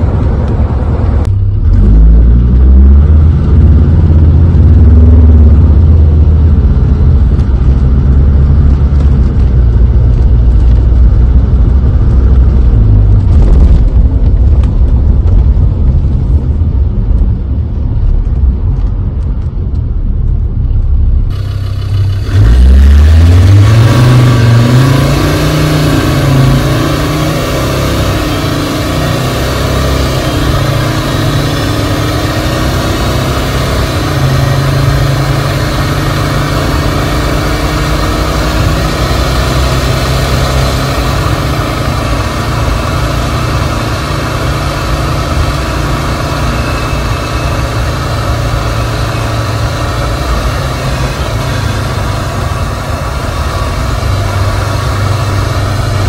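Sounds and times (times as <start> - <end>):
diesel engine from inside cabin: 0.0 - 56.0
road drone: 0.0 - 56.0.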